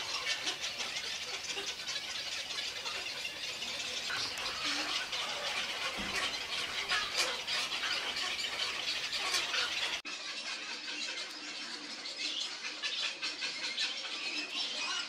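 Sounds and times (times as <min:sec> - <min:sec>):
egrets squawking and croaking: 0:00.0 - 0:15.0.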